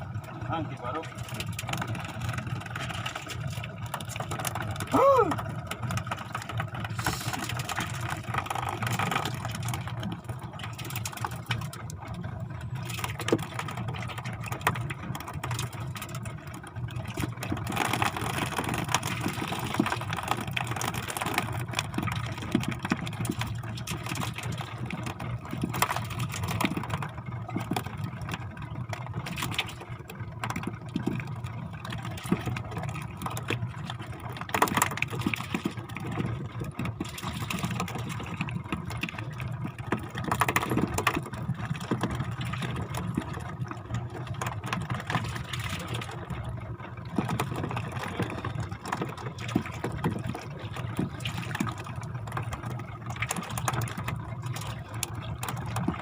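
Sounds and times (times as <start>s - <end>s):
boat engine running: 0.0s - 56.0s
water rushing along hull: 0.0s - 56.0s.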